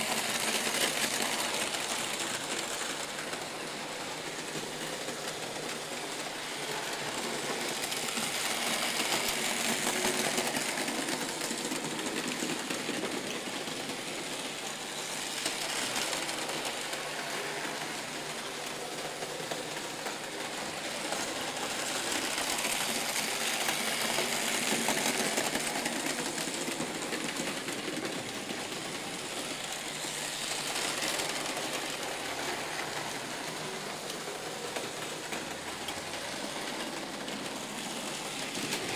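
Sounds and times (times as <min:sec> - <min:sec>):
model trains whirring on metal track: 0:00.0 - 0:38.9.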